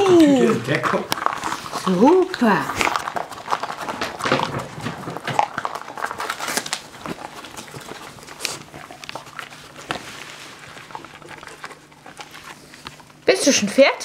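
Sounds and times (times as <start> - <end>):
dog chewing and crunching treat: 0.0 - 14.0.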